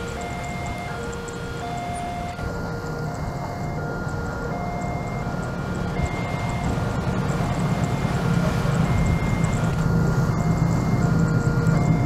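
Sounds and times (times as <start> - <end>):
locomotive engine rumble: 0.0 - 12.0
two-pitch electronic tones: 0.0 - 12.0.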